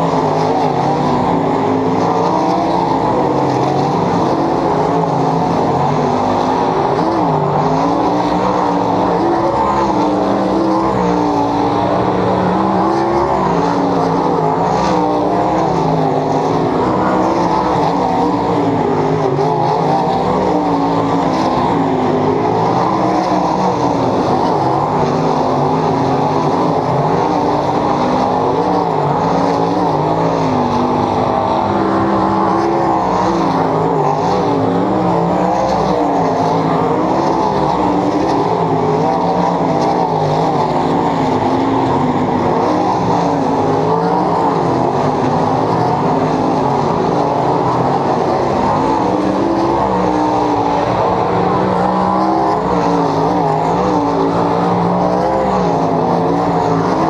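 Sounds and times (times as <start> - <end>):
race car engines droning: 0.0 - 57.0.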